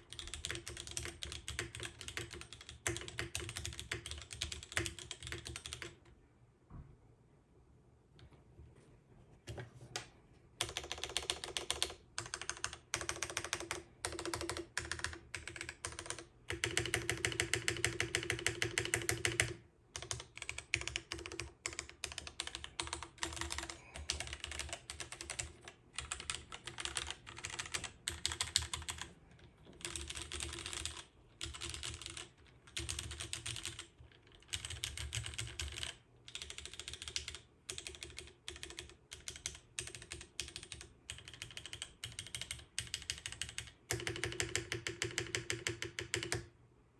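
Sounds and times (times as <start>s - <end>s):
fast mechanical keyboard typing: 0.0s - 6.0s, 10.6s - 46.5s.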